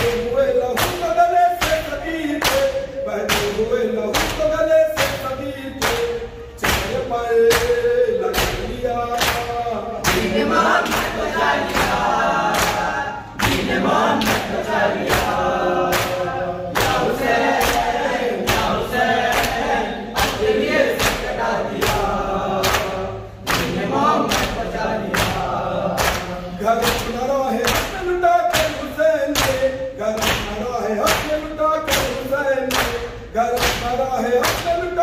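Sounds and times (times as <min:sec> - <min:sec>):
men chanting in unison: 0:00.0 - 0:35.0.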